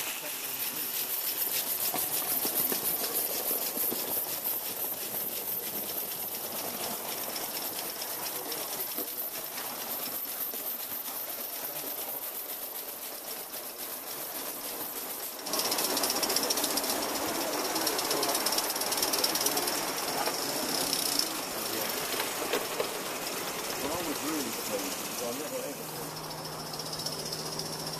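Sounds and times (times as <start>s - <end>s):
steam hiss: 0.0s - 27.9s
steam locomotive exhaust beat: 0.0s - 27.9s.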